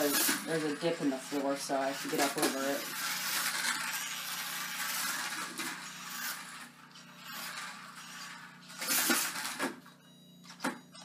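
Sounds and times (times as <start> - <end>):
wheels scraping and rattling: 0.0 - 9.6
toy truck motor whirring: 0.0 - 9.9.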